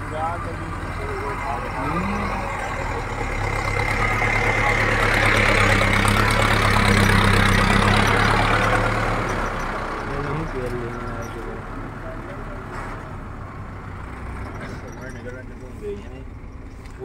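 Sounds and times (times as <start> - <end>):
tractor diesel engine passing: 0.0 - 17.0.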